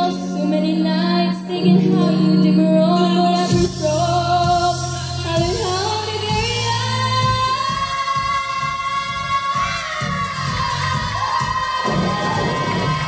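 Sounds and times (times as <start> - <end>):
amplified pop band: 0.0 - 13.0
women singing pop song: 0.0 - 13.0.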